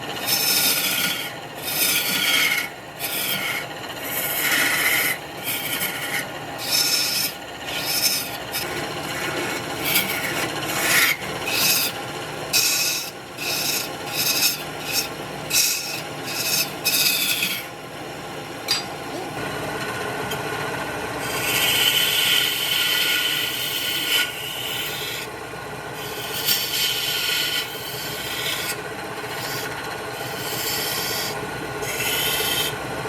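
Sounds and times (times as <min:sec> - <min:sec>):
tool rasping against spinning wood: 0:00.0 - 0:19.5, 0:21.2 - 0:32.9
faint lathe hum: 0:00.0 - 0:33.0.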